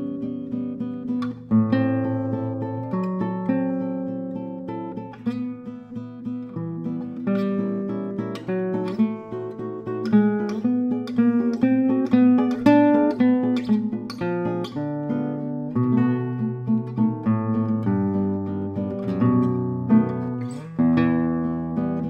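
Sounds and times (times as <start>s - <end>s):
fingerpicked classical guitar: 0.0s - 22.0s.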